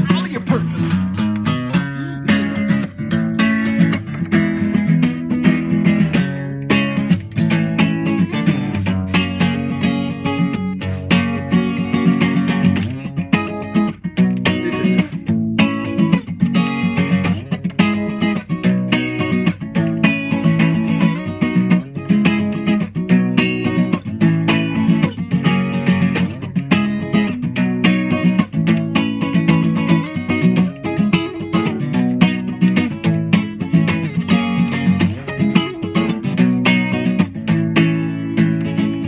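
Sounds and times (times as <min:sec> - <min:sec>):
acoustic guitar strumming: 0:00.0 - 0:39.0.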